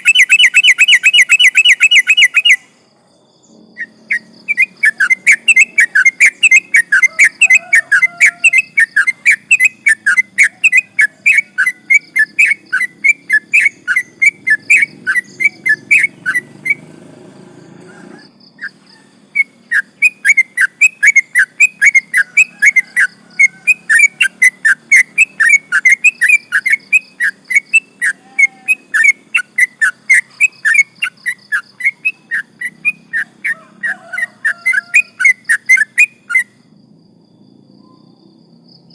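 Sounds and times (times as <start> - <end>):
bird whistled chirps: 0.0 - 2.8, 3.8 - 16.9, 17.9 - 36.6.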